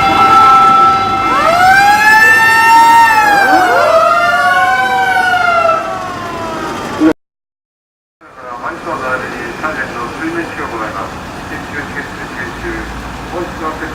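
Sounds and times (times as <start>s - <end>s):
fire engine sirens wailing: 0.0s - 7.2s, 8.3s - 13.9s.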